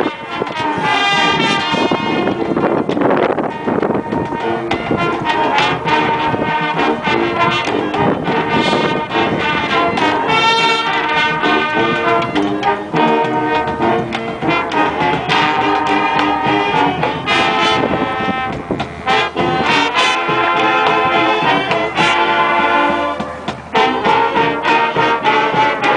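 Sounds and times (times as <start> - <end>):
marching band brass: 0.0 - 25.9
marching drums: 0.0 - 25.9.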